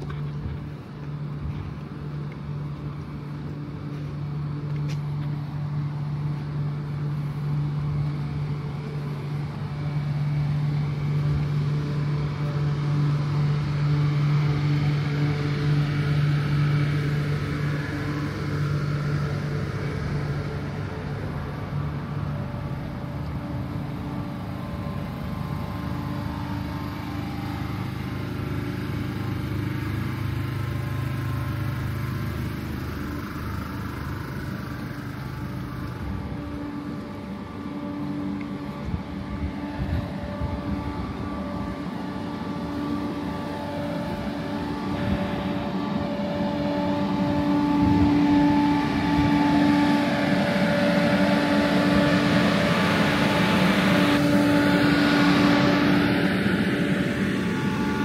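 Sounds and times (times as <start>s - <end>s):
train carriages humming: 0.0s - 58.0s.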